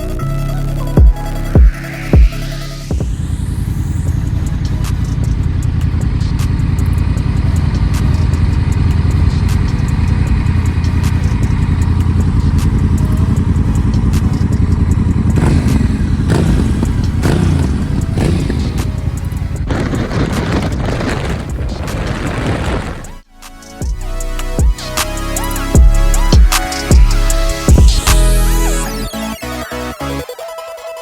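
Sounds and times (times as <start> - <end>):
motorcycle engine running: 0.0 - 23.2, 23.8 - 29.0.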